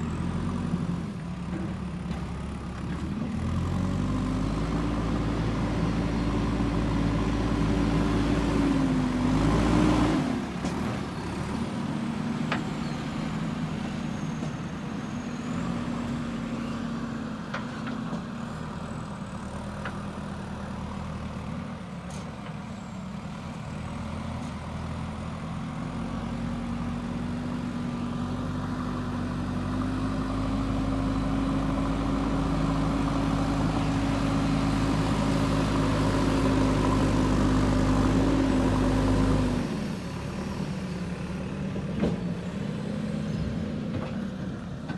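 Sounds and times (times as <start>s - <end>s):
backhoe diesel engine working: 0.0s - 44.9s.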